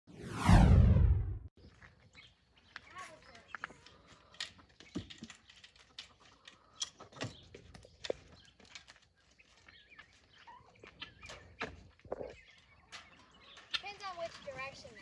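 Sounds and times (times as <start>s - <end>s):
birds stepping: 1.7s - 15.0s.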